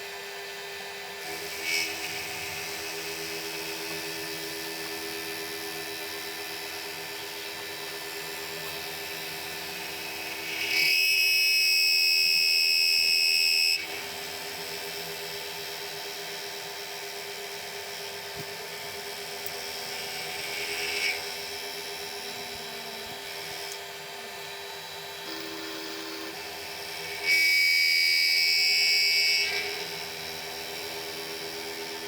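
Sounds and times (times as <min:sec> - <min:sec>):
milling machine humming: 0:00.0 - 0:32.0.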